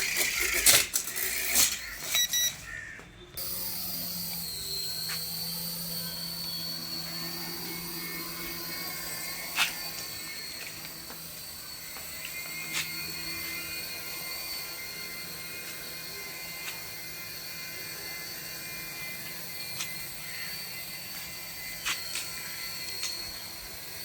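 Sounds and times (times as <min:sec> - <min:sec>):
small electric motor whining: 0:00.0 - 0:24.0.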